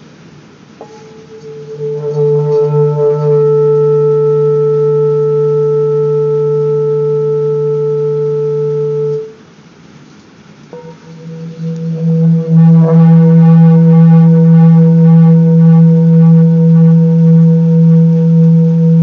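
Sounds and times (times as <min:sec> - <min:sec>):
singing bowl struck: 0:00.8 - 0:09.3, 0:10.8 - 0:19.0
singing bowl ringing: 0:00.8 - 0:09.4, 0:10.8 - 0:19.0.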